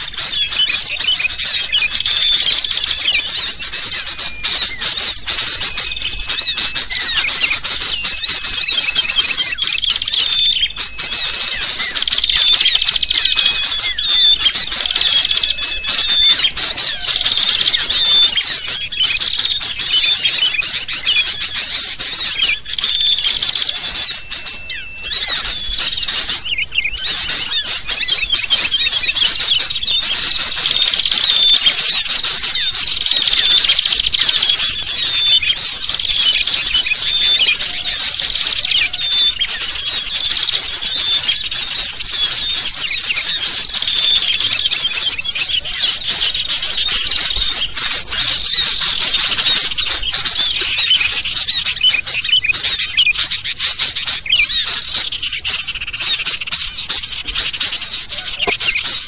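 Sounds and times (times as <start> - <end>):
bulbuls calling noisily: 0.0 - 59.0
falling bird call: 0.0 - 59.0
small birds chirping: 0.0 - 59.0.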